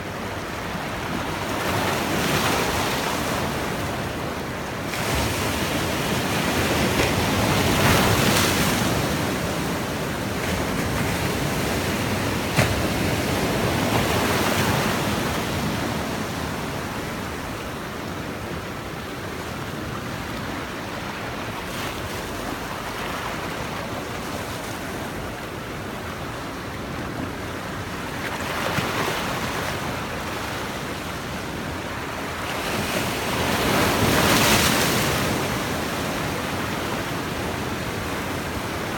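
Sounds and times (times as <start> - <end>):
sea waves washing ashore: 0.0 - 38.9.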